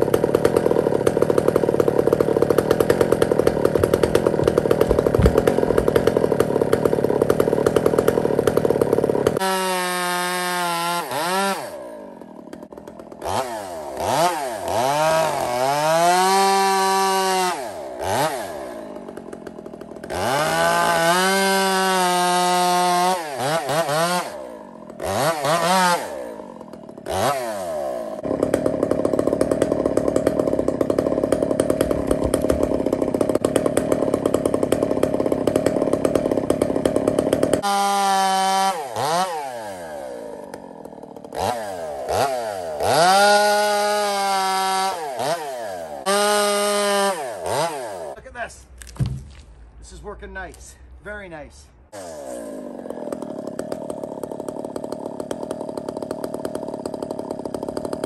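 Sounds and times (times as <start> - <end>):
chainsaw engine revving: 0.0 - 50.0, 51.9 - 58.0
chainsaw cutting log: 0.0 - 58.0.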